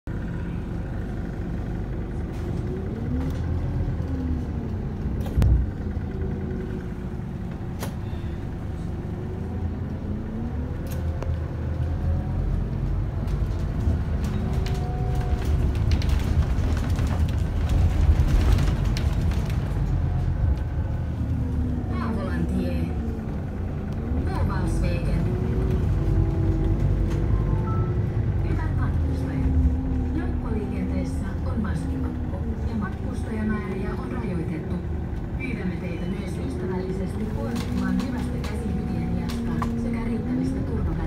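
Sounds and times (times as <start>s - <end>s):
bus engine rumbling: 0.0s - 41.0s.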